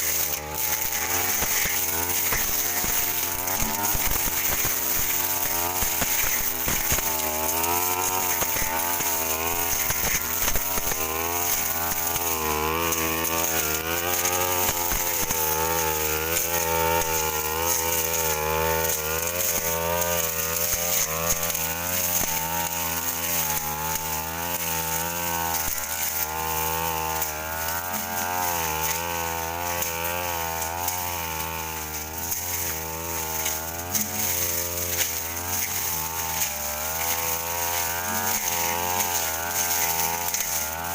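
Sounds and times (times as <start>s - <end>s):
brush cutter engine running: 0.0s - 40.9s.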